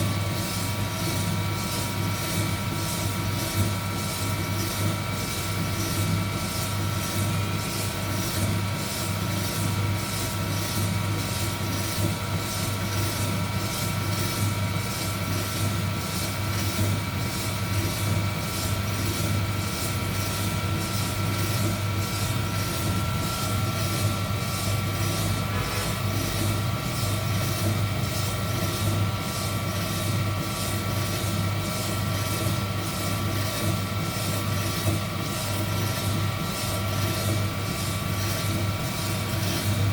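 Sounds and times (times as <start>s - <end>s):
heat gun fan whine: 0.0s - 39.9s.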